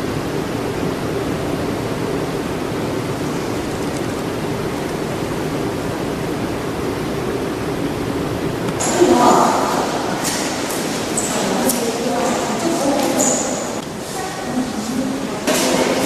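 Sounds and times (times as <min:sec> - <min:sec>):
air and ventilation hush: 0:00.0 - 0:16.0.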